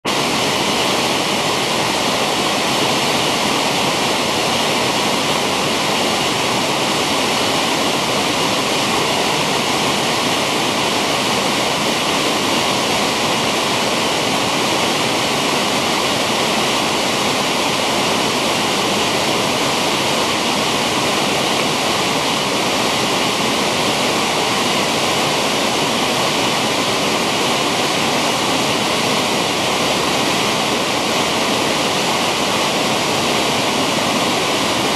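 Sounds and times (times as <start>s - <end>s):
waterfall and rapids rushing: 0.0s - 34.9s.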